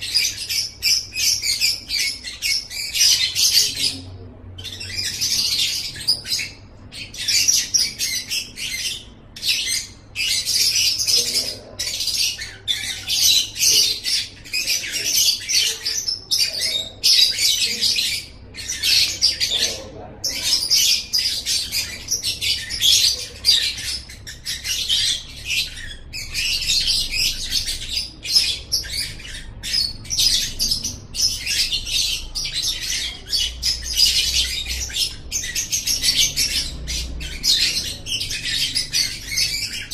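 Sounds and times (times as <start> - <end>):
lovebird high-pitched chattering: 0.0 - 39.9.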